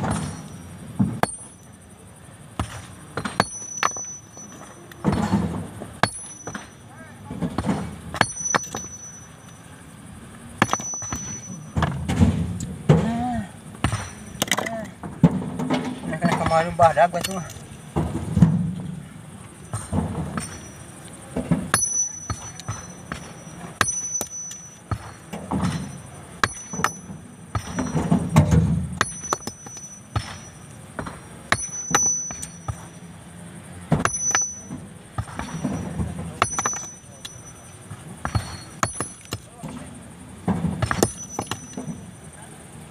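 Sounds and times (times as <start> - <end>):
sledgehammer striking stone: 0.0 - 1.6, 2.6 - 6.8, 7.4 - 9.2, 10.6 - 18.7, 19.7 - 33.0, 33.9 - 37.6, 38.2 - 39.8, 40.5 - 42.0.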